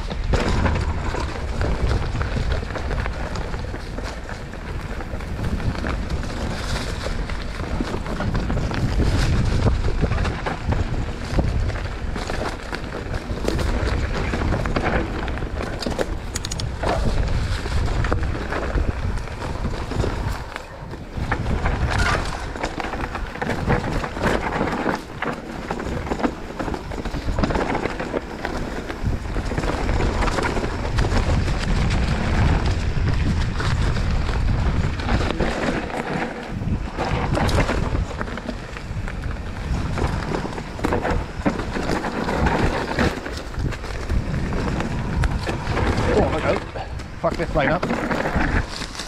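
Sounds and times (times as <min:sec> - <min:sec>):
bike knocks and rattles: 0:00.0 - 0:49.0
bike tyre noise on dirt: 0:00.0 - 0:49.0
wind buffeting microphone: 0:00.0 - 0:49.0.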